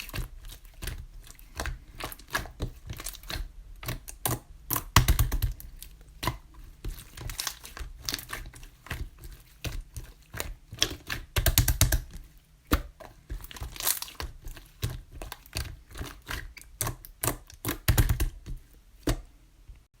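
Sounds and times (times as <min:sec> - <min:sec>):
slime squishing with sticky pops: 0:00.0 - 0:19.3.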